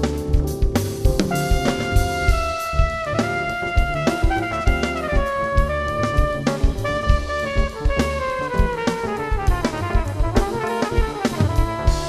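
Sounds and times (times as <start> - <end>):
drum kit: 0.0 - 12.0
jazz band playing: 0.0 - 12.0
trumpet sliding downward: 1.3 - 12.0.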